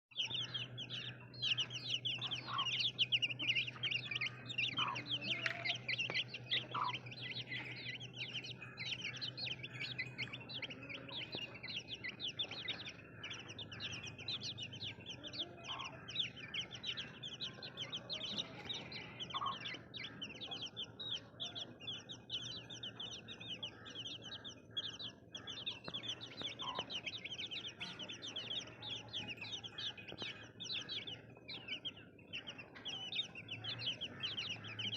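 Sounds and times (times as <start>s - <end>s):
baby chicks peeping: 0.1s - 34.9s.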